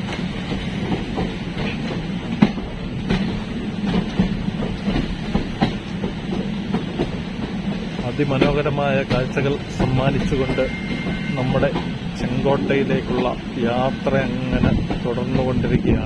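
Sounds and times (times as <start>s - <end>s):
train rumble: 0.0s - 16.0s
wheels clacking over rail joints: 0.0s - 16.0s.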